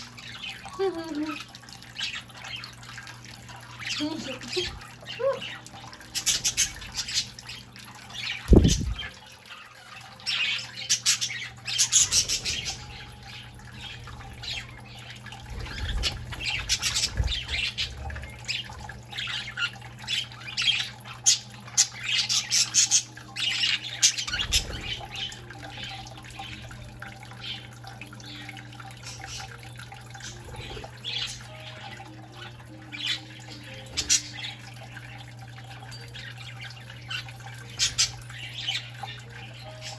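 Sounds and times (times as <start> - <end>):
budgerigars chirping and squawking: 0.0 - 39.9
low steady hum: 0.0 - 39.9
trickling fountain water: 0.0 - 39.9.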